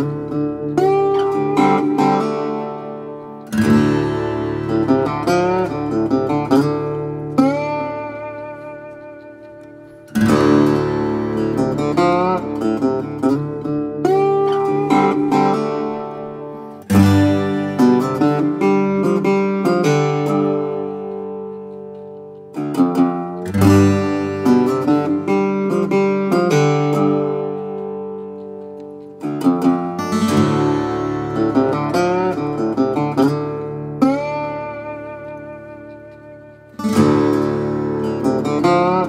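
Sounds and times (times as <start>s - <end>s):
plucked acoustic guitar: 0.0s - 39.0s.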